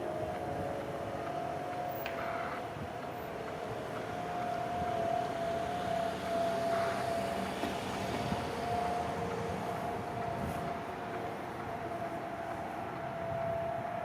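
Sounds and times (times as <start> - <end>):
warning siren steady tone: 0.0 - 14.0.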